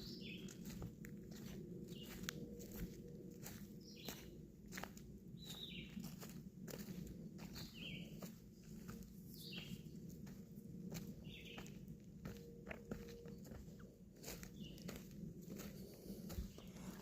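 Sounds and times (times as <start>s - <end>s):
faint footsteps on trail: 0.0s - 17.0s.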